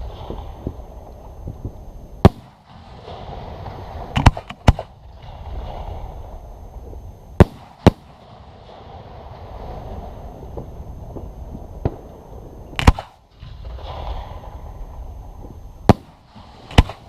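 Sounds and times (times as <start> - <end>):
fireworks bursting with sharp bangs: 0.0 - 6.5, 7.3 - 17.0.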